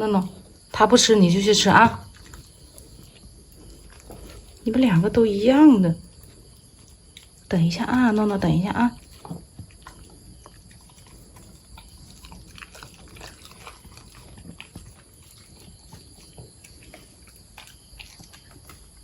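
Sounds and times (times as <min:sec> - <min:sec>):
dog chewing kibble: 0:00.0 - 0:19.0.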